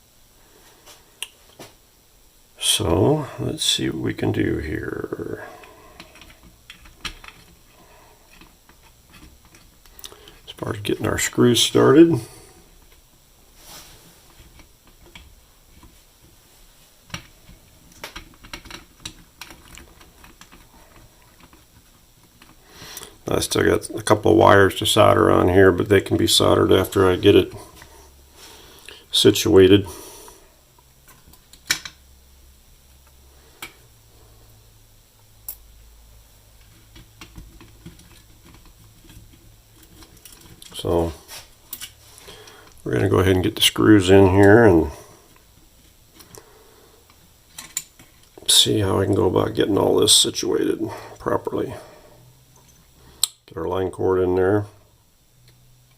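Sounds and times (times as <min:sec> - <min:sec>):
faint low hum: 0:00.0 - 0:55.9.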